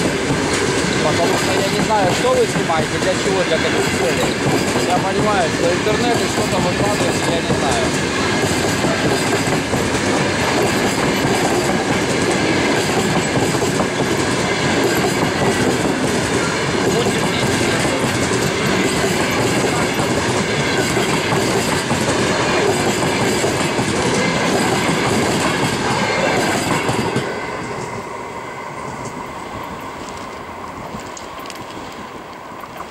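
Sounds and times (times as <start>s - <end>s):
train coaches rolling past: 0.0s - 32.9s.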